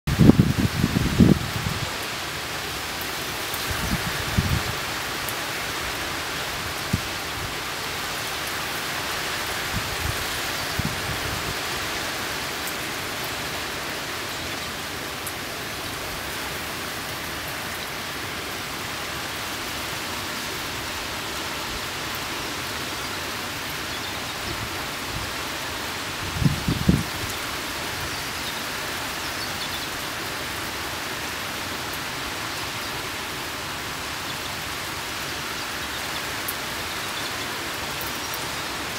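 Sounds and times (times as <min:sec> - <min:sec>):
rain falling: 0:00.1 - 0:38.9.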